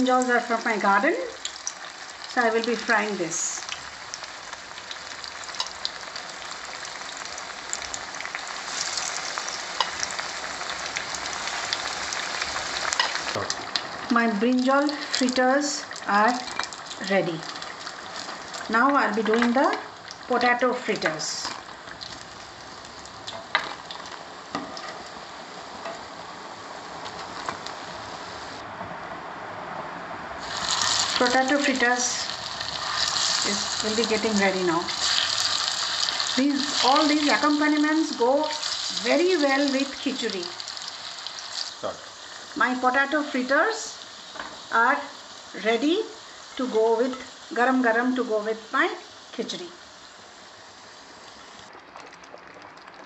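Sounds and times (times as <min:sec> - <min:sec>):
battered slices sizzling in oil: 0:00.0 - 0:28.6, 0:30.4 - 0:53.0.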